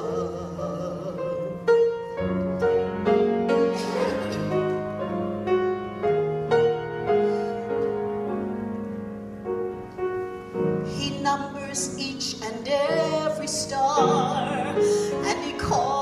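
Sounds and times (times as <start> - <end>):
gospel piano chords: 0.0 - 16.0.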